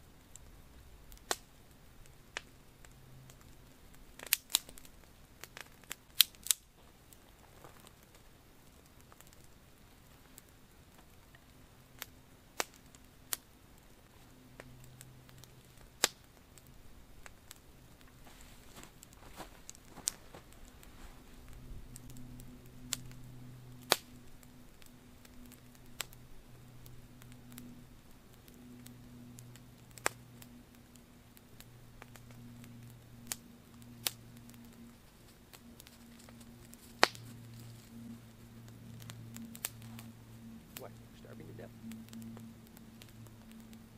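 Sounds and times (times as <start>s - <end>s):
campfire crackling: 0.0s - 43.9s
sharp fire pops: 1.1s - 1.7s, 2.4s - 9.6s, 10.3s - 13.5s, 14.5s - 26.2s, 26.8s - 38.2s, 38.9s - 43.9s.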